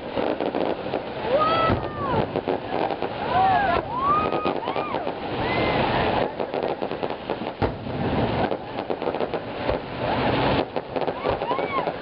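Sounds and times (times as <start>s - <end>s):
firework sharp bang: 0.0s - 12.0s
fireworks crackling pops: 0.0s - 12.0s
steady rushing noise: 0.0s - 12.0s.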